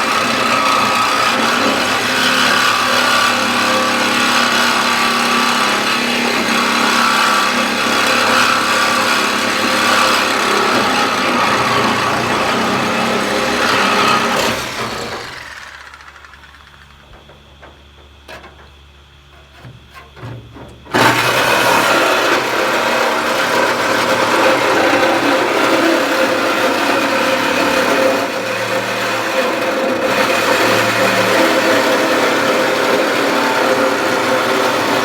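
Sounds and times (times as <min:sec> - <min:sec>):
power cutting tool cutting metal: 0:00.0 - 0:17.0, 0:20.9 - 0:35.0.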